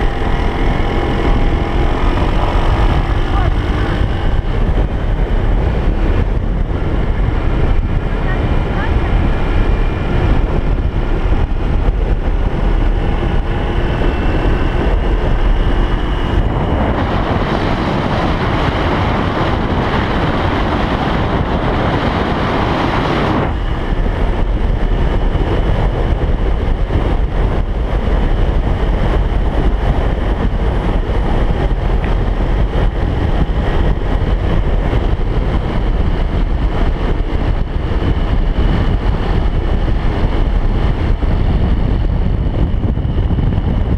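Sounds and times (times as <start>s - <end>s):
vehicle engine running: 0.0s - 43.9s
wind rushing over microphone: 0.0s - 43.9s.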